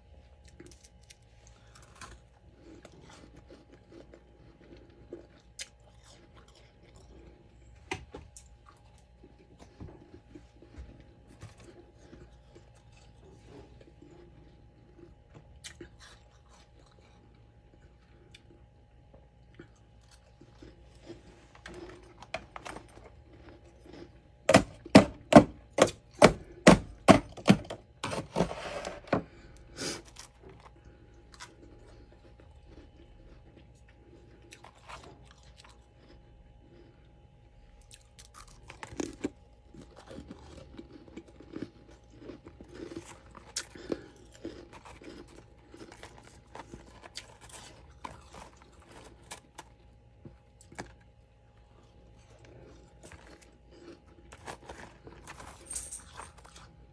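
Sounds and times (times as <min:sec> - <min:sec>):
crunching and chewing frost: 0:00.0 - 0:56.9.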